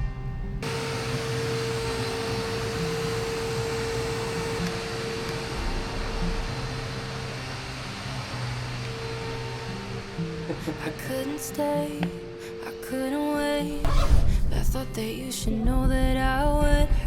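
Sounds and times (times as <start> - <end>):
rushing motor-like noise: 0.6 - 14.4.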